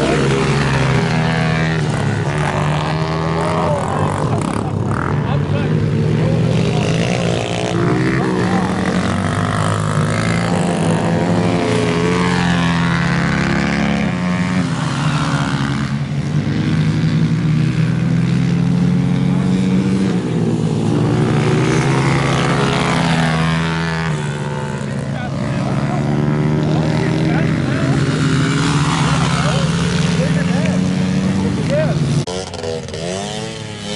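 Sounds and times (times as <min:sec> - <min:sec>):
racing motorcycle engines: 0:00.0 - 0:33.9.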